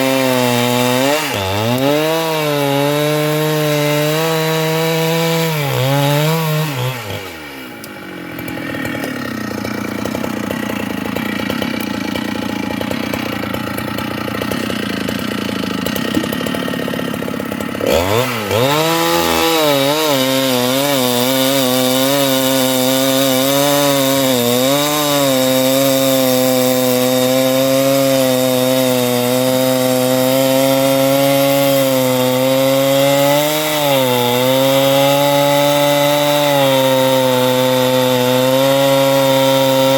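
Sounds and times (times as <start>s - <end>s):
chainsaw cutting wood: 0.0s - 39.9s
chainsaw engine revving and idling: 0.0s - 39.9s.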